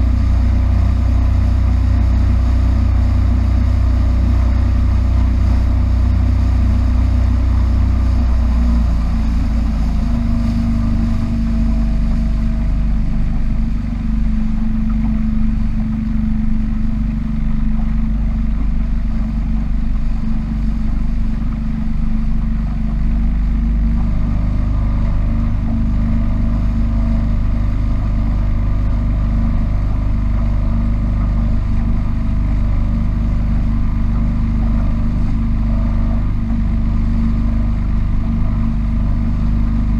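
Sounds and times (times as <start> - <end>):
powerboat engine droning: 0.0 - 39.9.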